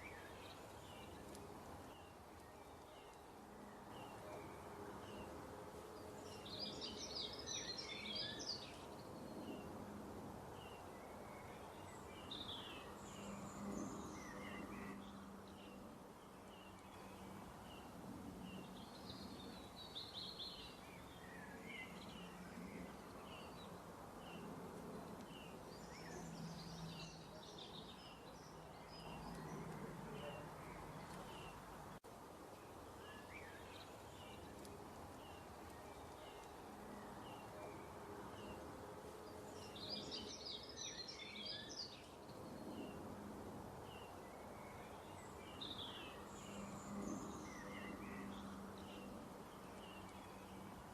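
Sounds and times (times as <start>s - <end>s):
birds chirping and twittering: 0.0s - 50.9s.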